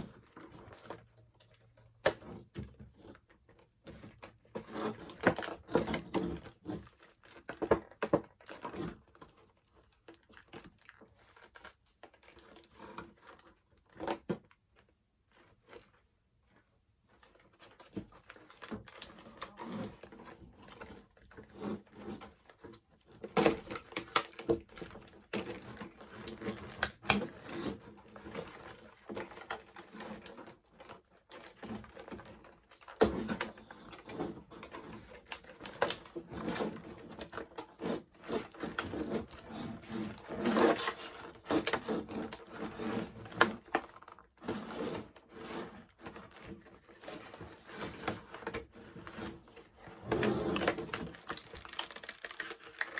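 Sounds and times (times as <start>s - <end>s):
plastic and cardboard packaging rattling: 0.0s - 52.9s.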